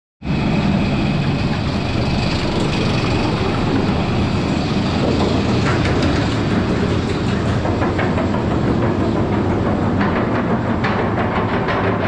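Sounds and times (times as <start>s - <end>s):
roller coaster rumbling on track: 0.2s - 12.0s.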